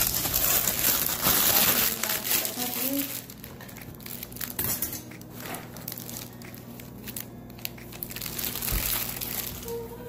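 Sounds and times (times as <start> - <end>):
plastic packaging crinkling: 0.0 - 10.0
steady low hum: 0.0 - 10.0.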